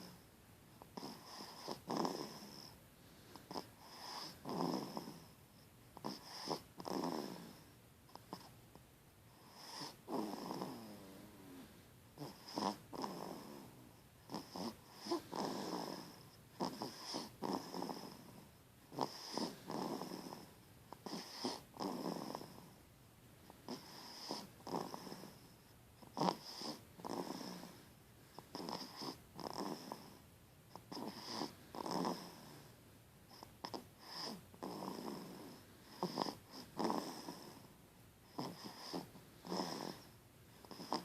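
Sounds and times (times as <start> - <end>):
rhythmic snoring: 0.0 - 5.4, 6.0 - 8.6, 9.3 - 22.8, 23.4 - 41.0.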